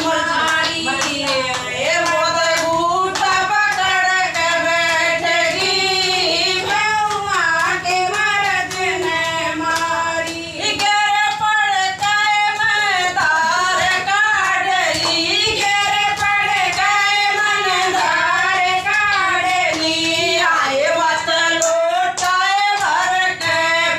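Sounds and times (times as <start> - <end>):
hand clapping: 0.0 - 23.9
women singing devotional song: 0.0 - 23.9.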